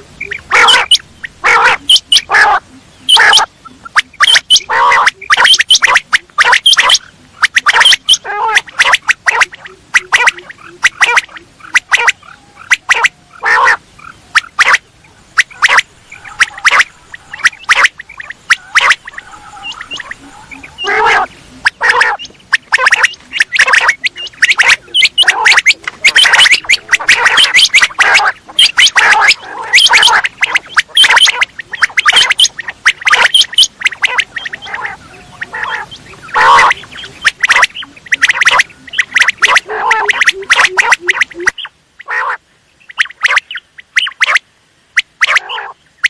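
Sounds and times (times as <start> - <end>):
quail calling: 0.0 - 44.4, 45.0 - 45.8.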